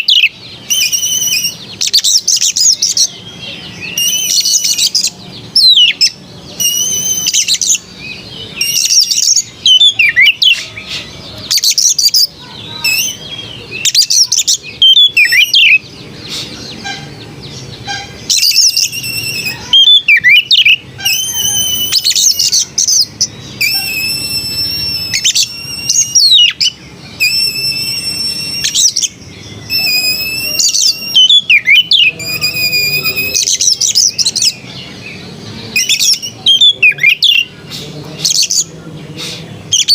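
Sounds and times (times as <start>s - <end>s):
songbird whistled song: 0.0s - 39.9s.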